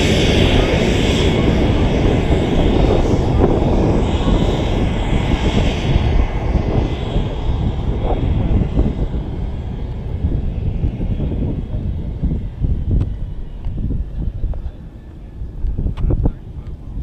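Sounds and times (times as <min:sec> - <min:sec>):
aircraft engine rumbling: 0:00.0 - 0:17.0.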